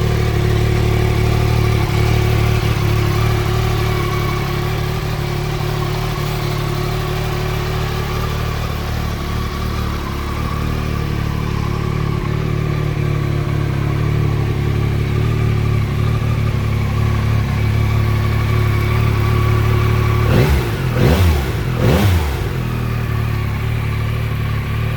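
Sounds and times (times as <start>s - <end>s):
motorcycle engine idling and revving: 0.0s - 24.9s.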